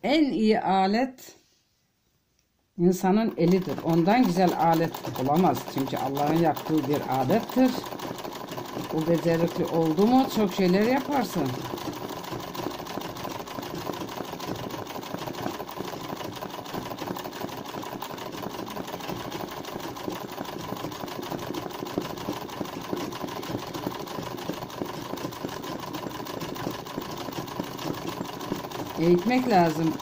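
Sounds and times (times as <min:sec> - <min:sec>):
sewing machine running: 0:02.8 - 0:30.0.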